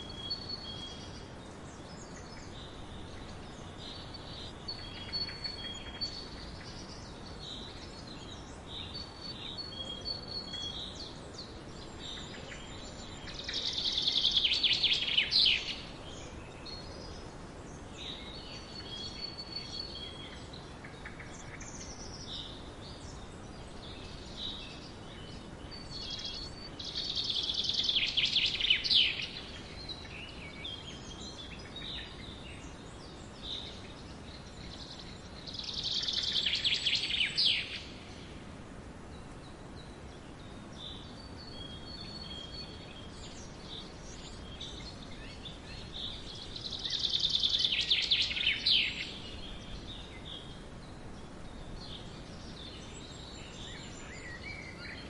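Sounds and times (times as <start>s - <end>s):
soft bird chirps: 0.0s - 55.0s
songbird singing: 0.0s - 55.0s
steady background hiss: 0.0s - 55.0s.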